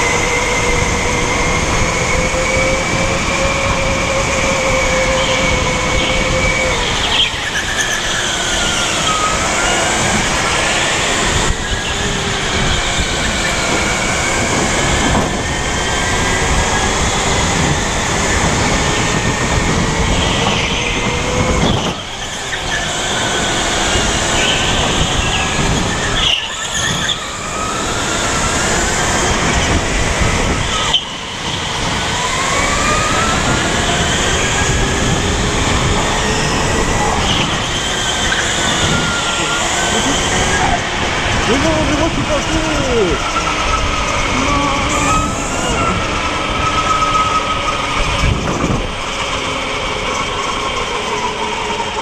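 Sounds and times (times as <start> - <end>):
go-kart motor whine: 0.0 - 52.0.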